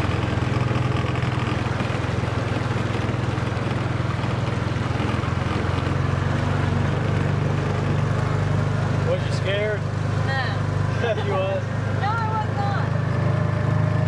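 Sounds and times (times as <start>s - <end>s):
buggy engine running: 0.0s - 14.0s
water rushing around vehicle: 0.0s - 14.0s.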